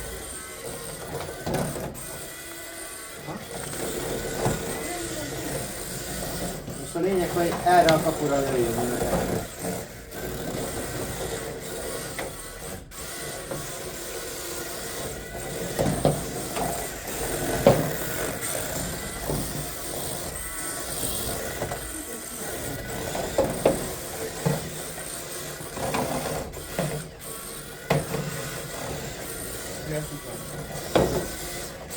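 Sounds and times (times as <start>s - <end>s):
electric motors whining: 0.0s - 31.9s.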